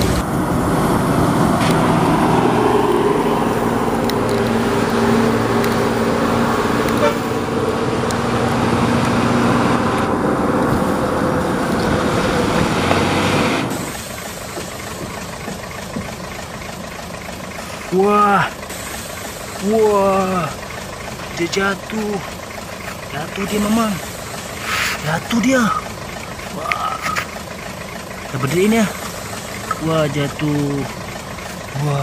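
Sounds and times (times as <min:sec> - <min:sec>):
engine-like drone: 0:00.0 - 0:32.0.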